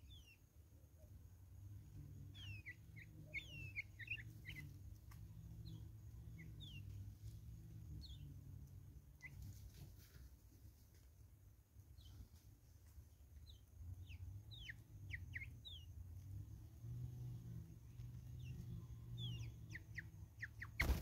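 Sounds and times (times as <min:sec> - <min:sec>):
faint bird chirps: 0:00.0 - 0:10.2, 0:11.8 - 0:21.0.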